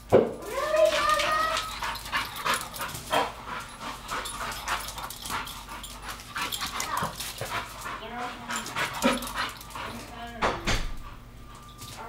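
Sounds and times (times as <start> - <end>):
dog claws clicking and scuffling: 0.6 - 12.0.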